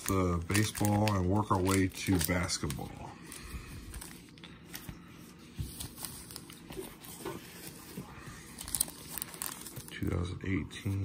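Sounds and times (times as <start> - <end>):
foil wrappers crinkling: 0.0 - 5.0, 5.6 - 11.0.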